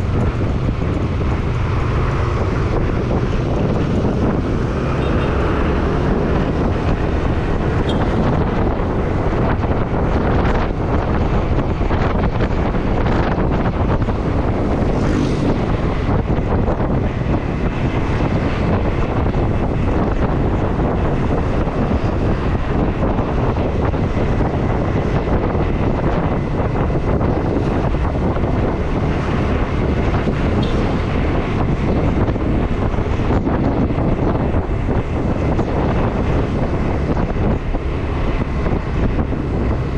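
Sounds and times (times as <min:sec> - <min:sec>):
motorcycle vehicle noise: 0:00.0 - 0:39.9
wind roaring over microphone: 0:00.0 - 0:39.9.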